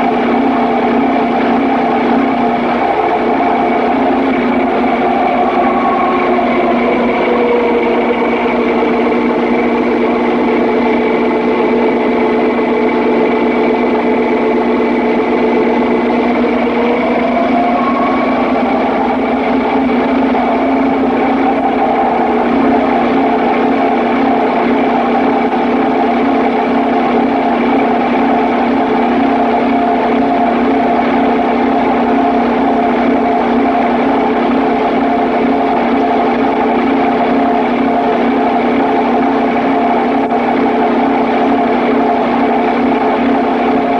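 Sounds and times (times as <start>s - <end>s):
engine droning: 0.0s - 43.9s.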